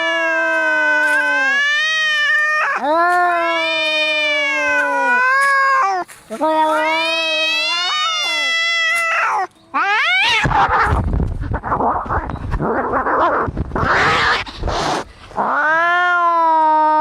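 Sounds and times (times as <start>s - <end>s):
cats hissing and screeching: 0.0s - 17.0s
cats yowling: 0.0s - 17.0s.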